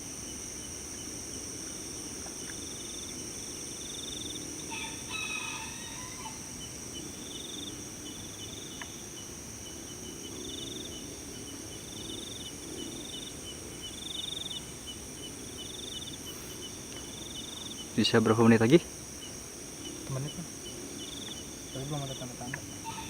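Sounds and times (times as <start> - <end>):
crickets droning: 0.0 - 23.0
pulsed insect trills: 0.0 - 23.0
quick insect chirps: 0.0 - 23.0.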